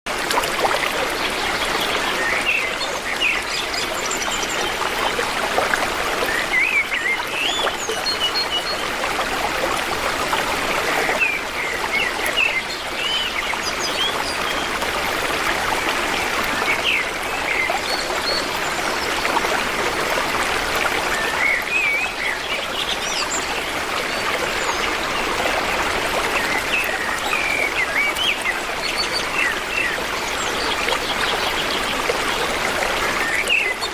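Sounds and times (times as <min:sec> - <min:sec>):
stream rushing: 0:00.1 - 0:33.9.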